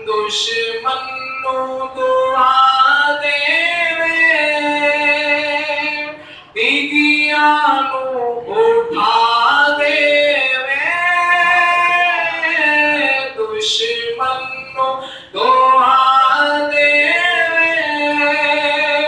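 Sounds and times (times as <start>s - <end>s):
man singing unaccompanied: 0.0s - 19.0s.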